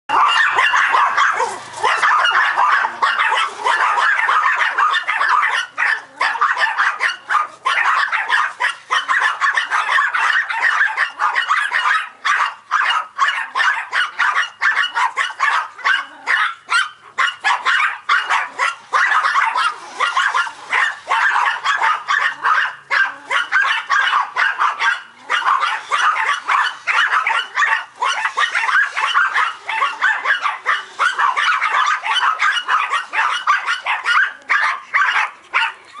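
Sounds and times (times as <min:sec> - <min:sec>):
small dogs barking: 0:00.1 - 0:36.0.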